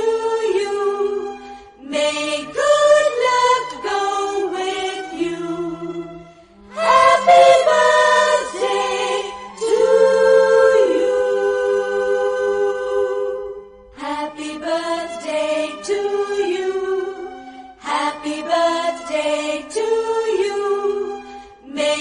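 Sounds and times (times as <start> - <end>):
children singing together: 0.0 - 21.2.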